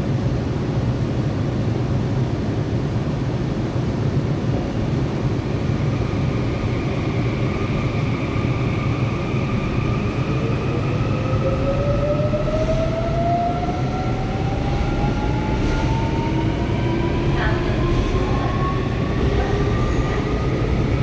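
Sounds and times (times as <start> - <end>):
subway train rumble and whine: 0.0 - 21.0.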